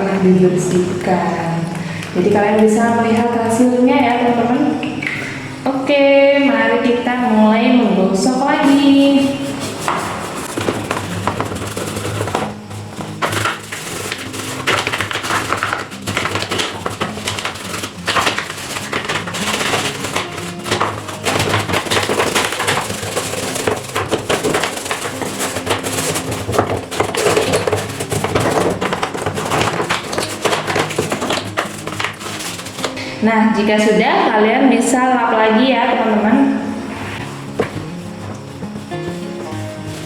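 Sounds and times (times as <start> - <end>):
background music: 0.0 - 40.0
washing machine scrubbing: 7.0 - 40.0.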